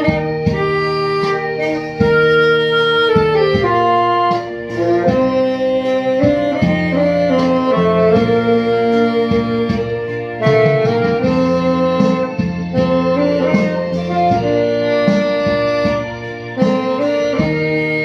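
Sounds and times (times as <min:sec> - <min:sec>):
instrumental music with held notes: 0:00.0 - 0:18.0.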